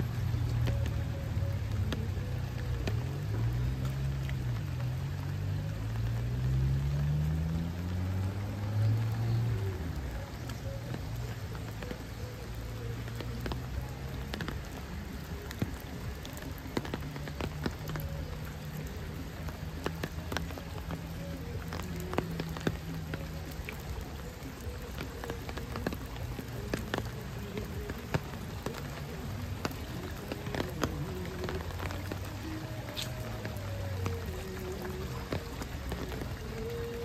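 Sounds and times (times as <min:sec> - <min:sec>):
raindrops ticking close by: 0:00.0 - 0:37.0
steady rain: 0:00.0 - 0:37.0.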